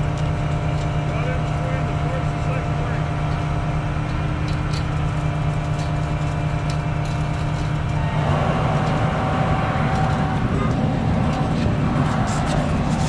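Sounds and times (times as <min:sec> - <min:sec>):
concrete pump truck running: 0:00.0 - 0:13.0.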